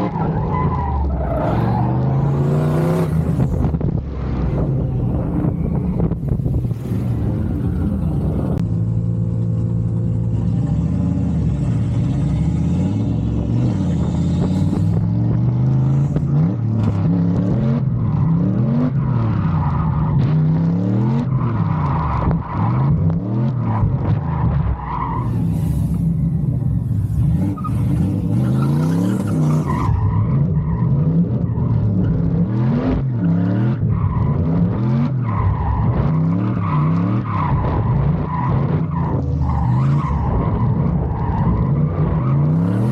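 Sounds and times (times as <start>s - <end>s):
tires squealing: 0.0s - 8.6s, 10.5s - 42.9s
truck engine revving: 0.0s - 42.9s.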